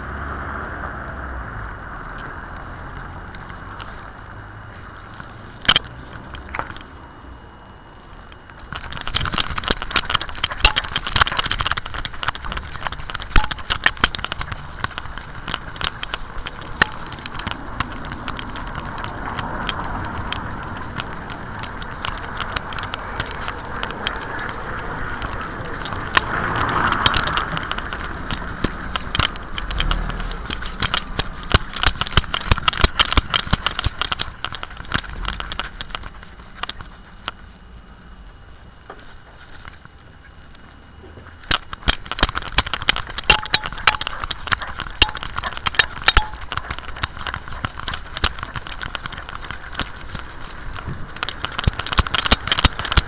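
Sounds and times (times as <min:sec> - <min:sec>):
sharp clicks and clatters: 0:00.0 - 0:53.0.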